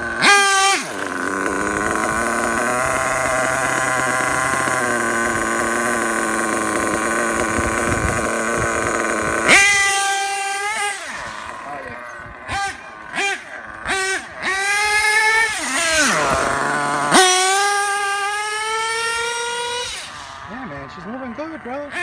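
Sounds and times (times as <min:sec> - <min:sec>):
rc truck engine at high revs: 0:00.0 - 0:22.0.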